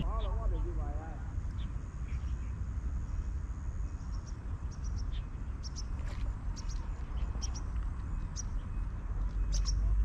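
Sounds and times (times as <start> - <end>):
small birds chirping: 0.0 - 10.0
wind rumble on microphone: 0.0 - 10.0.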